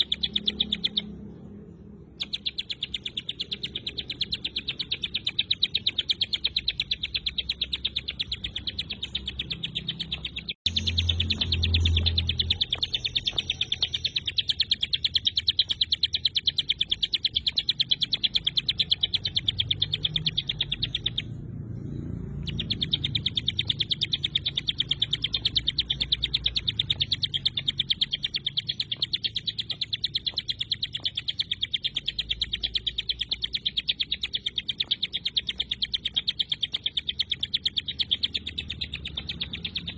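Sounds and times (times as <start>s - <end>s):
bird singing high repeated notes: 0.0s - 39.9s.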